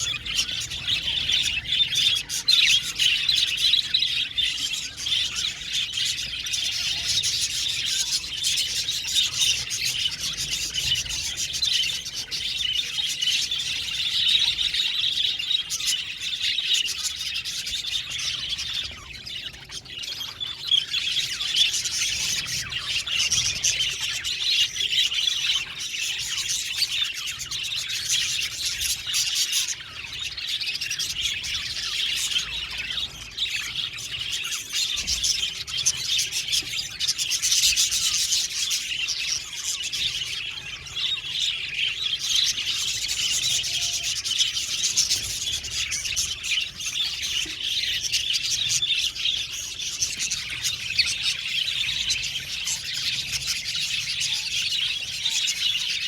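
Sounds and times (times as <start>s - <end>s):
flock of budgerigars chirping: 0.0s - 56.0s.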